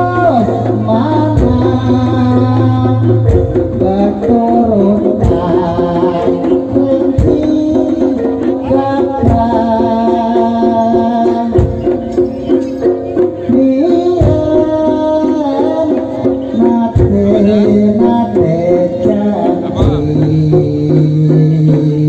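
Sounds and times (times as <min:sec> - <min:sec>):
hand drum strokes: 0:00.0 - 0:22.0
person singing: 0:00.0 - 0:22.0.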